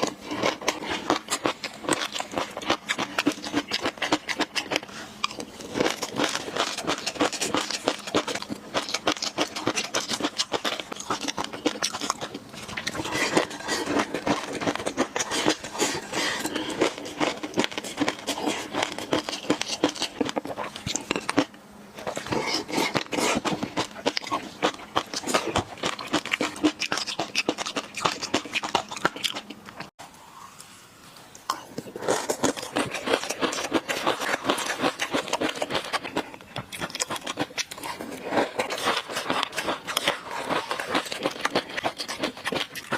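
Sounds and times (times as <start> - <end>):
chewing fish roe: 0.0 - 29.9, 31.3 - 42.9.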